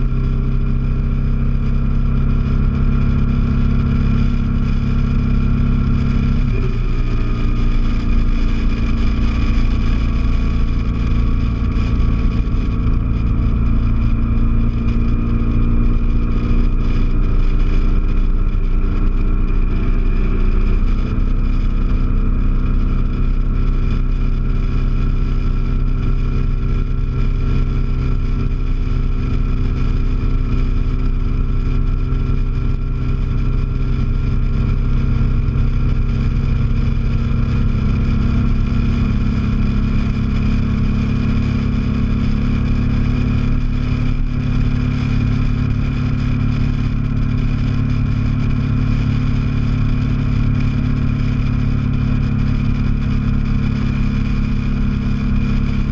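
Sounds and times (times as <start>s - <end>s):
motorcycle engine cruising: 0.0s - 55.9s
wind and road noise: 0.0s - 55.9s.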